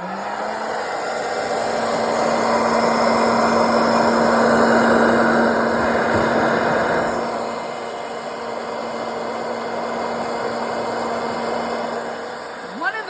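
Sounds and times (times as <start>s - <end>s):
popcorn popper fan blowing: 0.0s - 13.0s.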